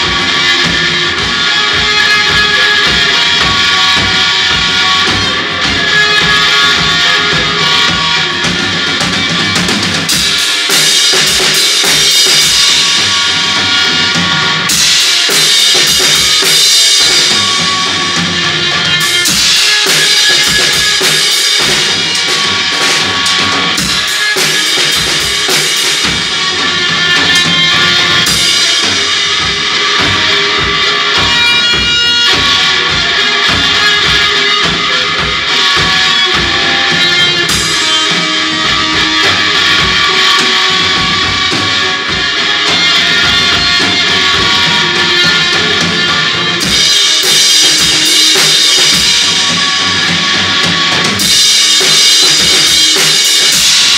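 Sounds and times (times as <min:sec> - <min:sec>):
bass guitar: 0:00.0 - 0:53.9
cymbal crashes: 0:00.0 - 0:53.9
distorted electric guitar: 0:00.0 - 0:53.9.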